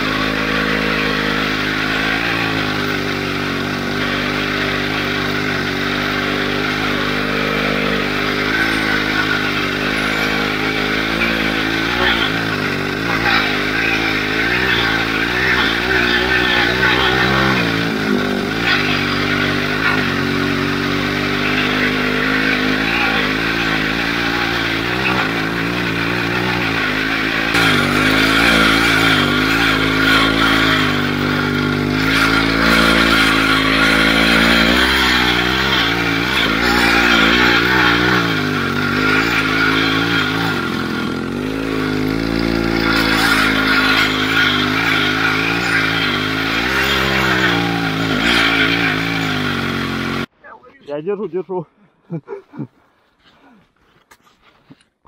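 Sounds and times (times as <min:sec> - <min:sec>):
two-stroke engine revving: 0:00.0 - 0:50.3.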